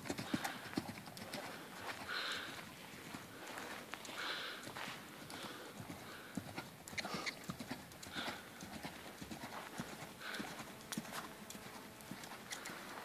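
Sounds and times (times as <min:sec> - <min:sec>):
hoofbeats on sand: 0:00.0 - 0:13.0.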